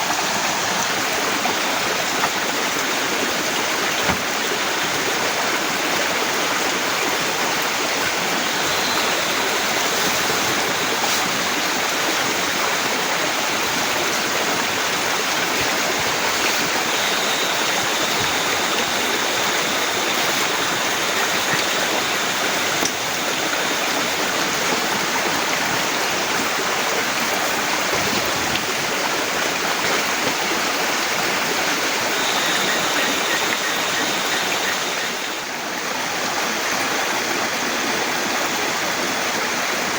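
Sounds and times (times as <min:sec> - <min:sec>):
heavy rain falling: 0:00.0 - 0:36.3.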